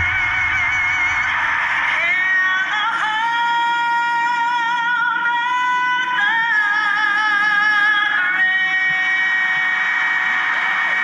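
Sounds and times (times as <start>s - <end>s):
woman singing with vibrato: 0.0s - 9.4s.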